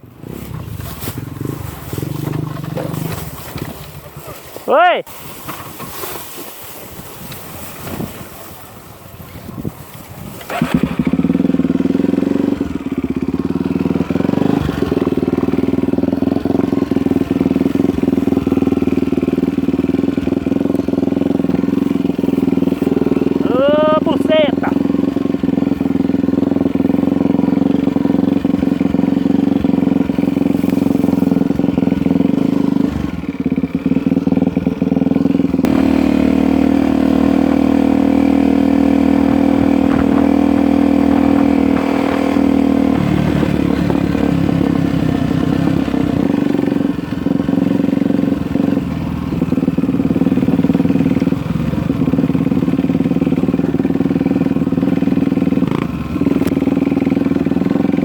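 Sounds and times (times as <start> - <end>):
off-road motorcycle engine: 0.0 - 58.0.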